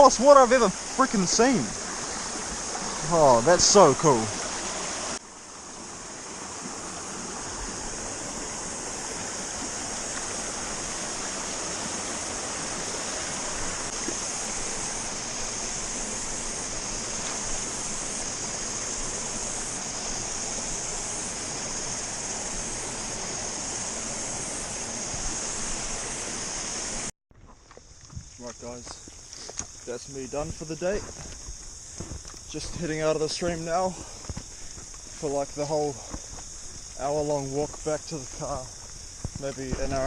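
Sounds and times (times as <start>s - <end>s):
cicada chorus: 0.0s - 40.0s
stream running over rocks: 0.0s - 40.0s.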